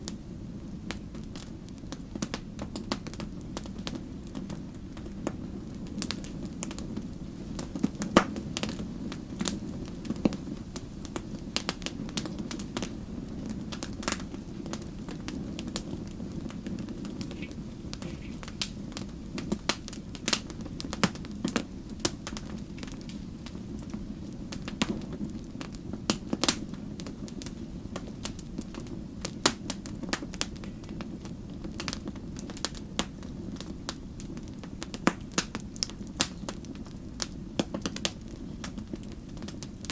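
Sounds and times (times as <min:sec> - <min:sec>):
burning wood crackling and popping: 0:00.0 - 0:39.9
campfire flame hiss: 0:00.0 - 0:39.9.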